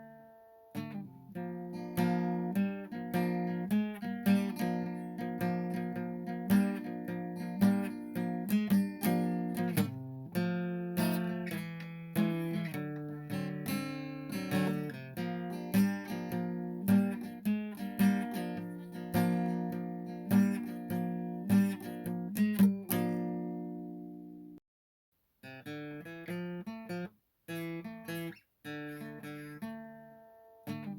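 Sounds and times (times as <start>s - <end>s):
acoustic guitar picked and strummed: 0.0s - 24.6s, 25.4s - 30.9s.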